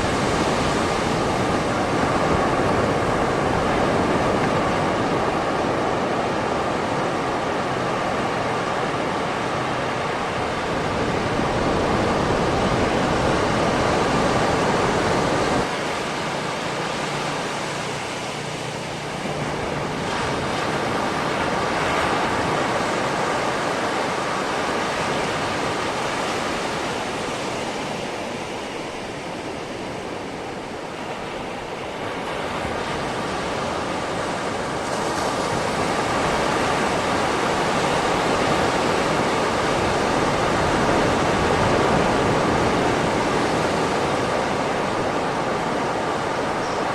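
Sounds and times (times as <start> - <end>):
sea waves washing onto beach: 0.0 - 46.9.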